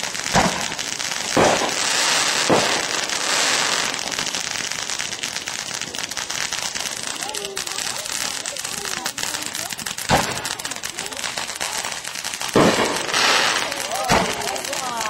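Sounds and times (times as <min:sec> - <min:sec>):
firework bangs: 0:00.0 - 0:15.0
firework crackles: 0:00.0 - 0:15.0.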